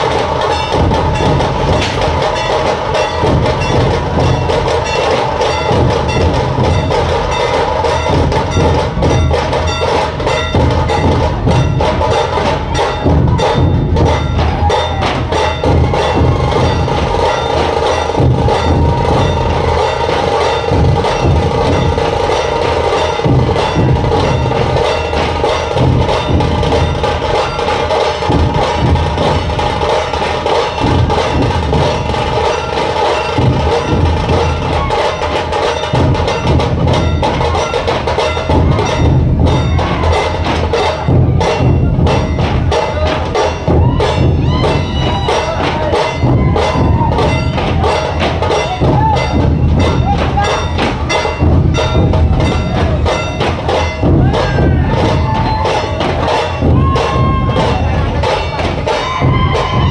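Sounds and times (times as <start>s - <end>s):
large barrel drums beating: 0.0s - 59.9s.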